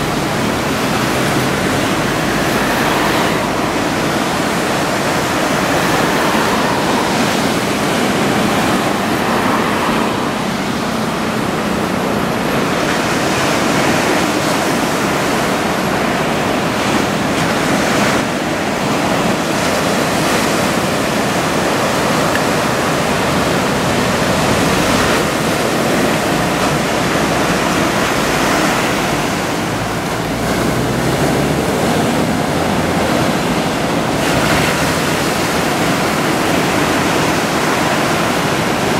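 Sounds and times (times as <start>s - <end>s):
surf breaking and washing in: 0.0s - 38.9s.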